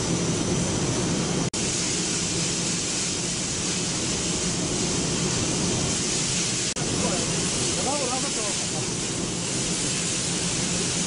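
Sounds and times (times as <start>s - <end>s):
factory machinery hissing: 0.0s - 11.0s.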